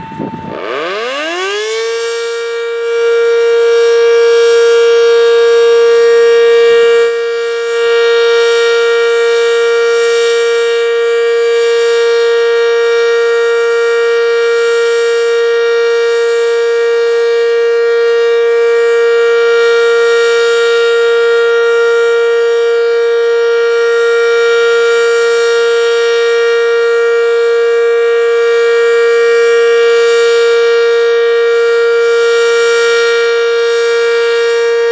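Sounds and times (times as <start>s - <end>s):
electric siren winding up: 0.0s - 34.9s.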